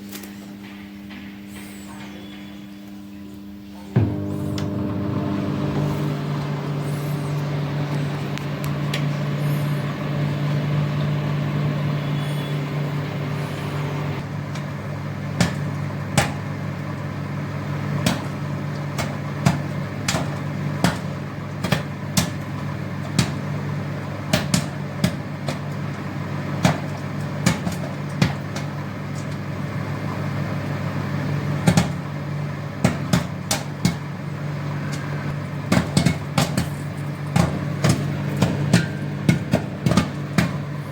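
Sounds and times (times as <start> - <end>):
microwave oven humming: 0.0 - 40.9
popcorn popping: 4.0 - 40.9.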